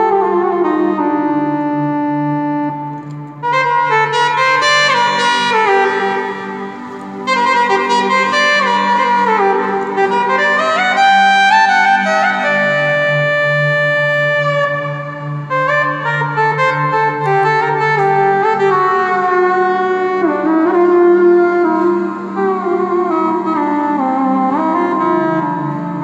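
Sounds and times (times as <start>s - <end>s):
held low keyboard chord: 0.0s - 26.0s
keyboard oriental-style melody: 0.0s - 26.0s.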